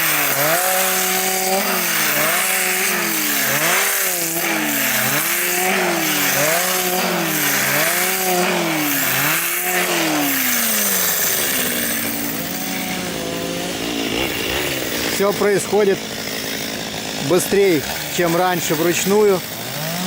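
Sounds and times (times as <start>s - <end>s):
chainsaw engine under load: 0.0s - 20.0s.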